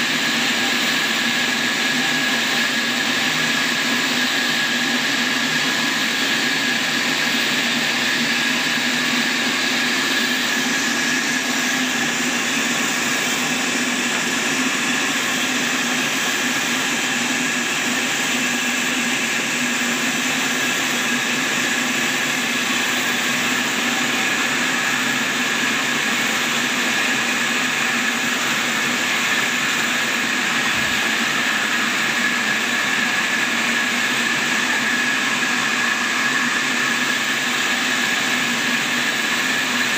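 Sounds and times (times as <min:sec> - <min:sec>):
sawmill whirring with high whine: 0:00.0 - 0:39.9.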